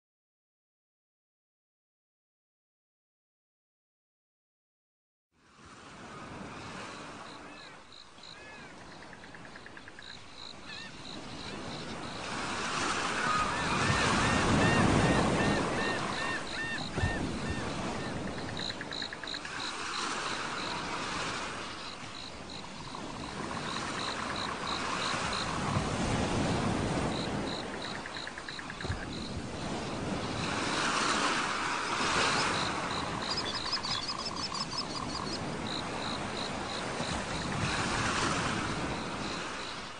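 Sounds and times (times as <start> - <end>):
ocean waves breaking: 5.5 - 39.9.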